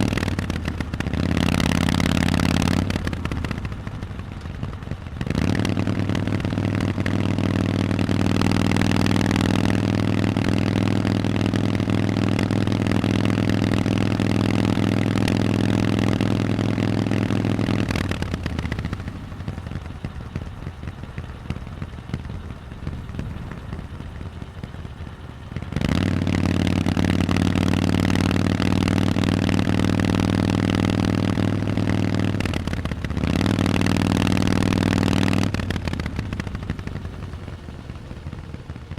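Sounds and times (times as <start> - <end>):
motorcycle engine running: 0.0 - 38.9
road and wind rushing: 0.0 - 38.9.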